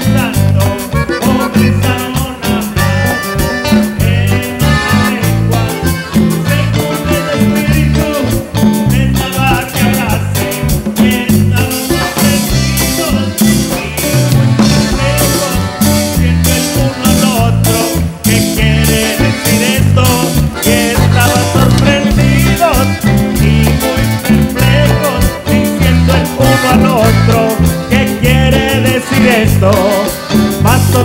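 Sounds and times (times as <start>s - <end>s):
accordion: 0.0s - 31.0s
bass: 0.0s - 31.0s
drums: 0.0s - 31.0s
electric guitars: 0.0s - 31.0s
man singing: 0.0s - 31.0s.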